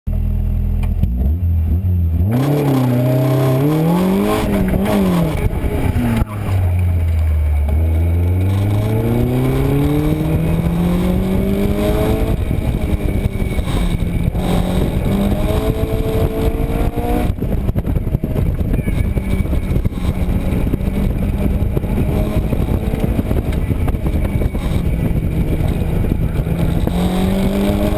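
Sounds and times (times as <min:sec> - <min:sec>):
car engine accelerating hard: 0:00.2 - 0:27.9.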